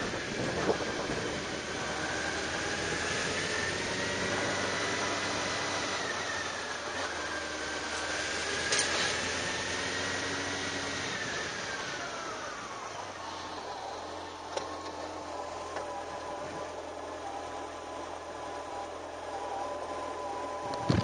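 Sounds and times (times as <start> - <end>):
moving vehicle running noise: 0.0 - 21.0.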